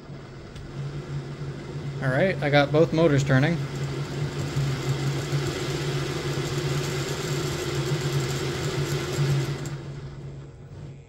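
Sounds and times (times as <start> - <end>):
electric motor whir and hum: 0.0 - 11.0.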